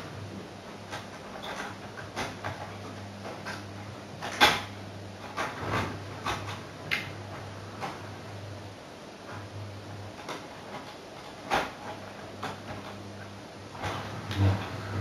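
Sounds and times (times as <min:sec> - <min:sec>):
steady low hum: 0:00.0 - 0:15.0
irregular clicks and knocks: 0:00.7 - 0:08.4, 0:09.2 - 0:15.0.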